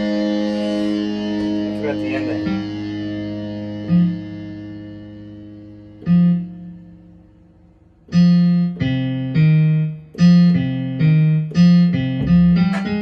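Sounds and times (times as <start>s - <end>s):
electronic keyboard piano chords: 0.0s - 13.0s.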